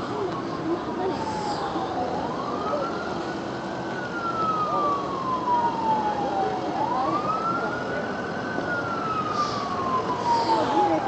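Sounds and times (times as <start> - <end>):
emergency vehicle siren wailing: 0.0 - 11.0
steady background noise: 0.0 - 11.0.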